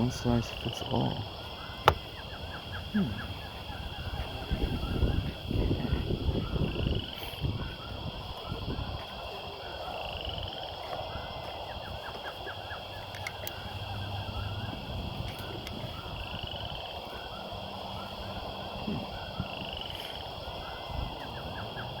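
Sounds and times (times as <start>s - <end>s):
wind noise on microphone: 1.3s - 22.0s.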